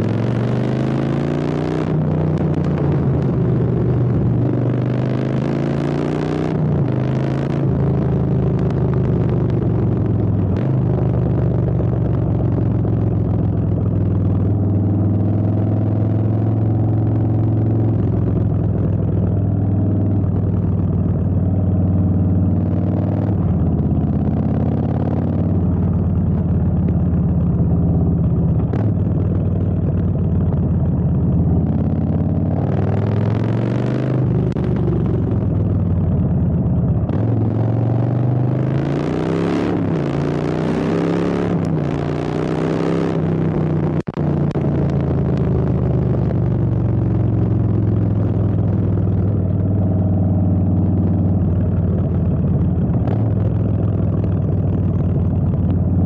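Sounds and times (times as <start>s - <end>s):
motorcycle exhaust revving: 0.0s - 56.0s.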